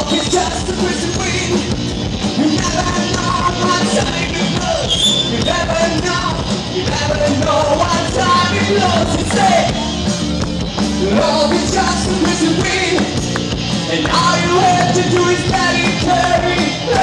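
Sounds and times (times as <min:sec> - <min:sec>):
drums: 0:00.0 - 0:17.0
electric guitars: 0:00.0 - 0:17.0.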